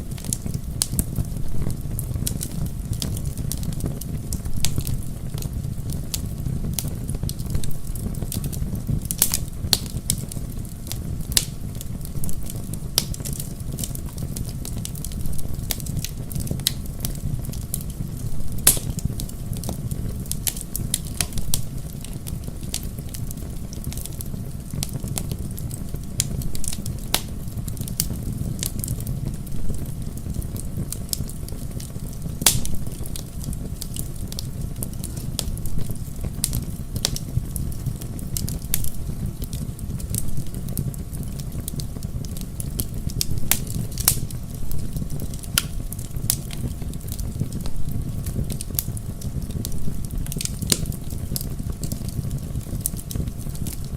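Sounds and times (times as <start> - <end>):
low rumble of flames: 0.0 - 53.9
wood crackling and popping: 0.0 - 53.9.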